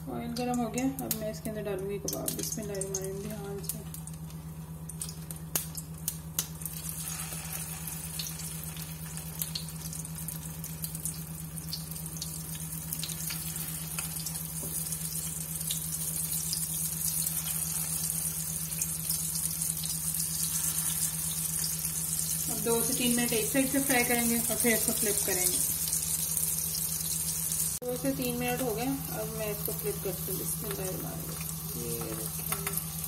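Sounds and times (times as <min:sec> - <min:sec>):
low steady hum: 0:00.0 - 0:33.0
patties sizzling in hot oil: 0:00.1 - 0:33.0
oil crackling and popping: 0:00.3 - 0:33.0.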